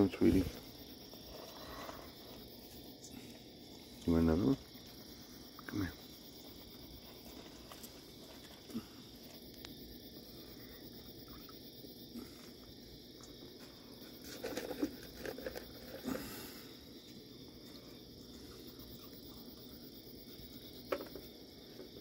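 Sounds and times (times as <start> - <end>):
night insects chirring: 0.0 - 22.0
raccoons crunching food: 0.6 - 11.0, 12.2 - 21.9.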